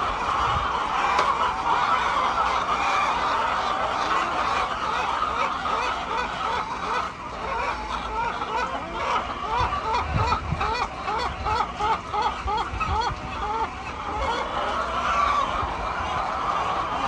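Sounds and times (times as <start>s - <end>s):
poultry calling: 0.0s - 17.0s.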